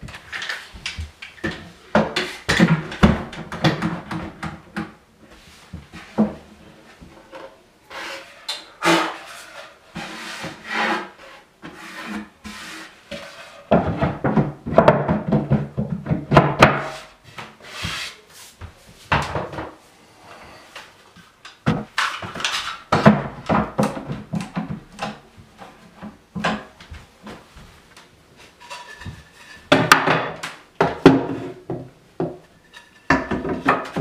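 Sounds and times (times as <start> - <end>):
wooden panels knocking and scraping: 0.0 - 19.8, 21.2 - 27.8, 28.4 - 34.0.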